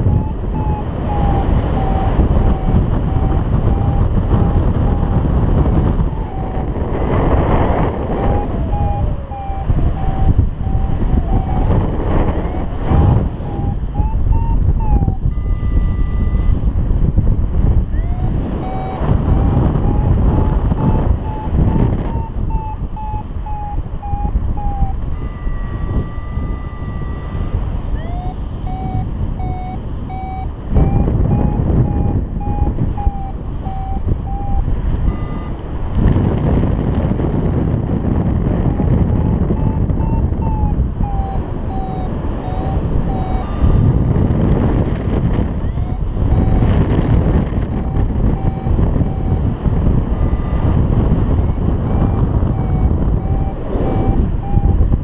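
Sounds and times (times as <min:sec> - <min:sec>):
variometer beeping: 0:00.0 - 0:55.0
wind on microphone: 0:00.0 - 0:55.0.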